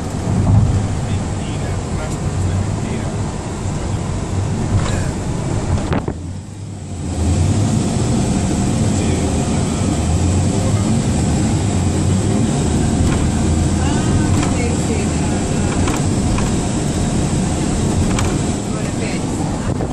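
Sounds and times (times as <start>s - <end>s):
car road and engine noise: 0.0s - 19.9s.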